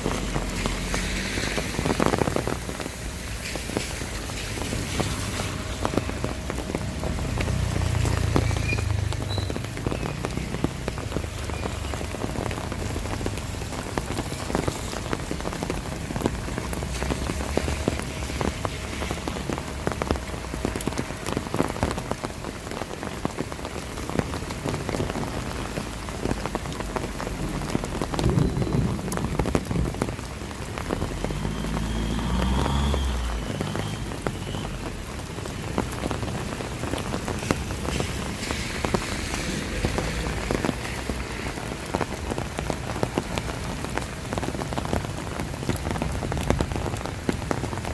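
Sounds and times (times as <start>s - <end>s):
raindrop patter: 0.0s - 47.9s.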